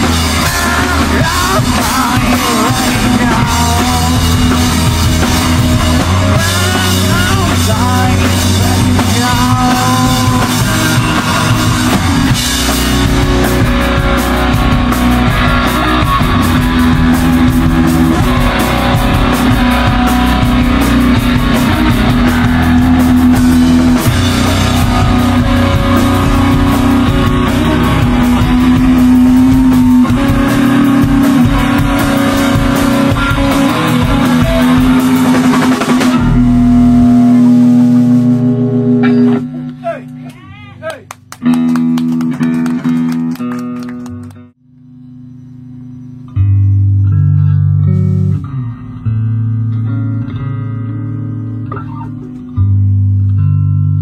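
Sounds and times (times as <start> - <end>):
drum kit: 0.0 - 44.3
electric guitar: 0.0 - 54.0.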